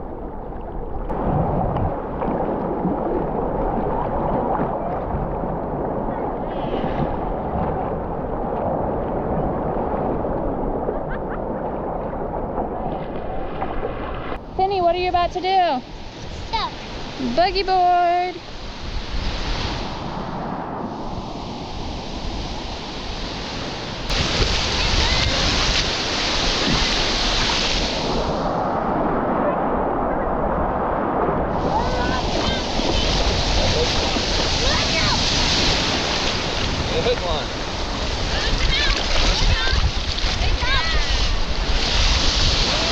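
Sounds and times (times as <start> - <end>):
ocean surf washing: 0.0 - 42.9
wind buffeting microphone: 0.8 - 42.9.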